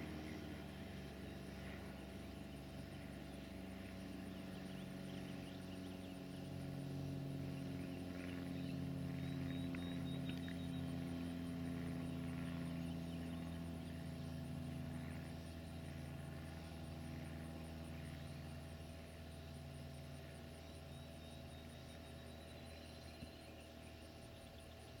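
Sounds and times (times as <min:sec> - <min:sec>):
airplane engines droning: 0:00.0 - 0:25.0.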